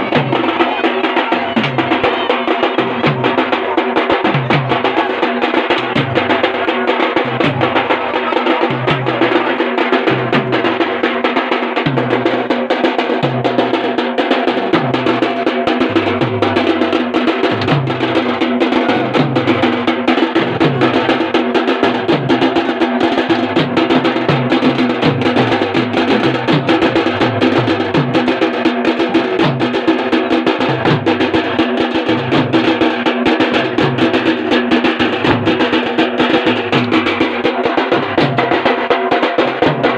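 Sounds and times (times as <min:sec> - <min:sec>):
barrel drums beaten with sticks: 0:00.0 - 0:39.9.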